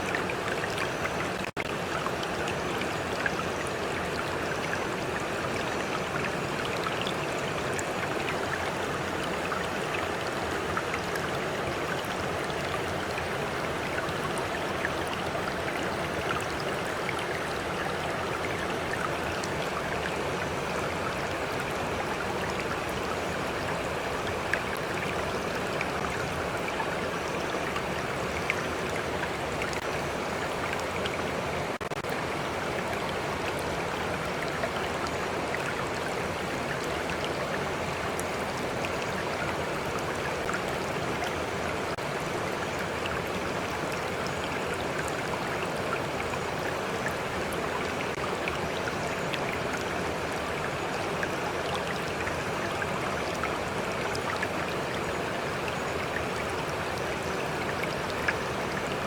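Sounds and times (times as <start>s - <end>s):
small water splashes and drips: 0.0s - 59.0s
stream flowing: 0.0s - 59.0s.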